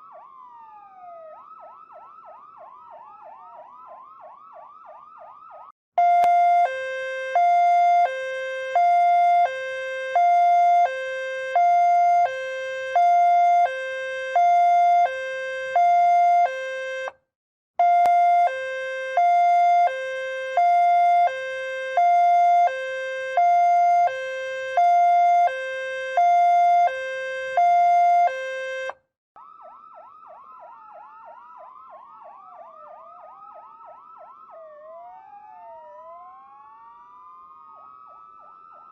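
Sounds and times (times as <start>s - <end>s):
siren wailing slowly: 0.0s - 17.2s, 17.8s - 38.9s
two-tone hi-lo siren: 0.0s - 17.2s, 17.8s - 38.9s.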